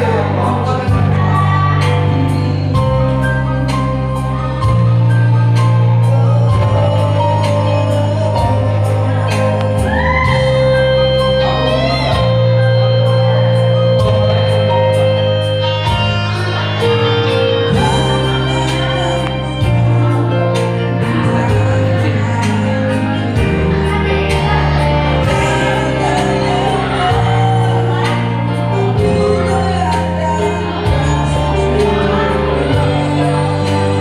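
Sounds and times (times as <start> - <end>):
bass line: 0.0 - 34.0
gliding voice or lead line: 0.0 - 34.0
live band music: 0.0 - 34.0.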